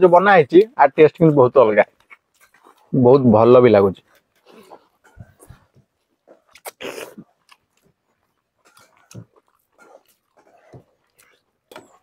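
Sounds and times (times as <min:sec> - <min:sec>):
people chewing food: 0:00.5 - 0:12.0.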